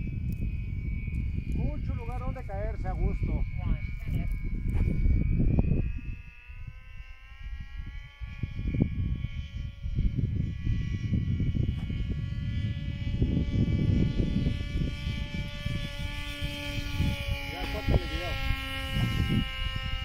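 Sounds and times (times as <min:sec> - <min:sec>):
electric motor and propeller buzzing: 0:00.0 - 0:20.0
wind rumbling on microphone: 0:00.0 - 0:20.0.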